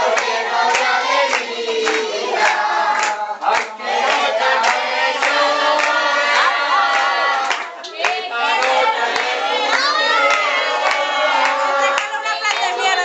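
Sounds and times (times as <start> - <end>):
crowd singing and chanting: 0.0 - 13.0
people clapping: 0.0 - 13.0.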